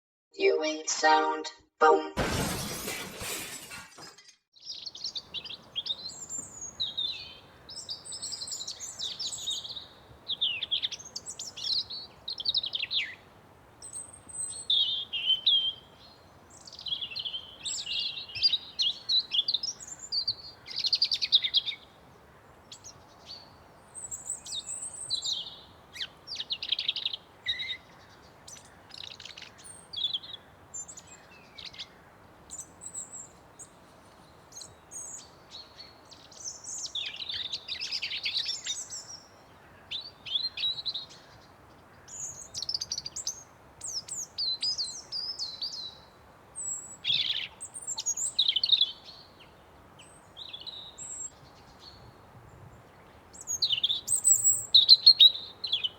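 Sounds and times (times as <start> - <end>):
songbirds singing and chirping: 4.6 - 55.9.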